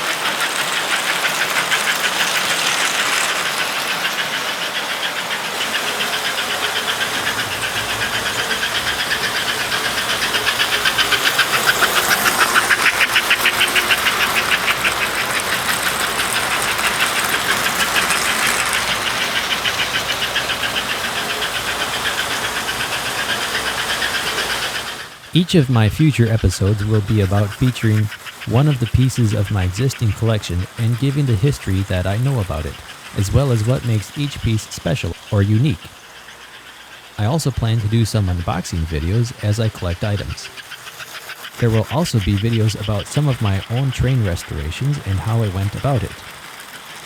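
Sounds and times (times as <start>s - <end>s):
model train wheels clattering: 0.0s - 47.0s.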